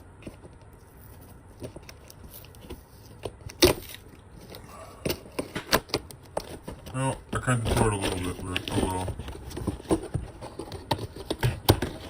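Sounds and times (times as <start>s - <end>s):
crinkles and clicks: 0.0s - 12.0s.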